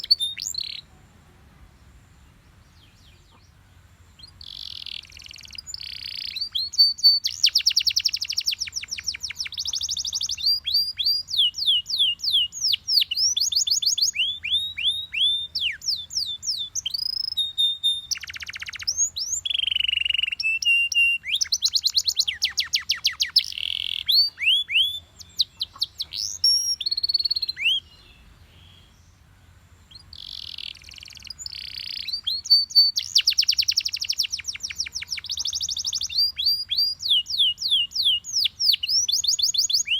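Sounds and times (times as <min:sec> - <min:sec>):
canary singing trills: 0:00.0 - 0:00.9, 0:01.6 - 0:39.9.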